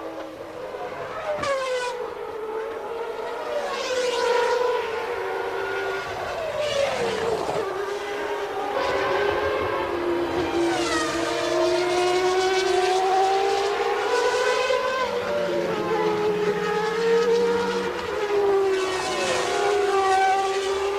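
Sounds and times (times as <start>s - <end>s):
race car engines passing: 0.0s - 20.9s.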